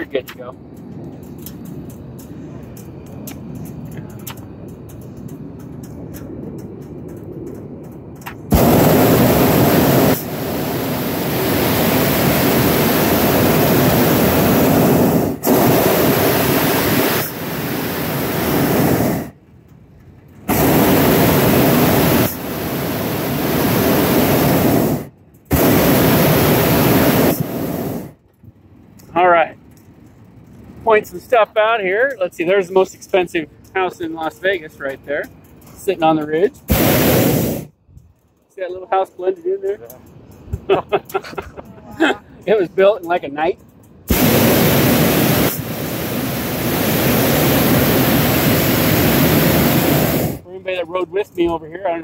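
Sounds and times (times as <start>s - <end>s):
propane burner hissing blasts: 0.0s - 19.4s, 20.4s - 28.2s, 30.6s - 41.4s, 42.0s - 52.0s.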